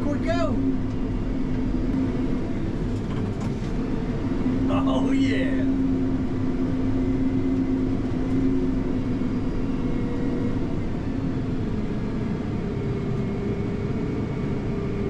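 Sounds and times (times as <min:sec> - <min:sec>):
tracked truck engine drone: 0:00.0 - 0:15.0.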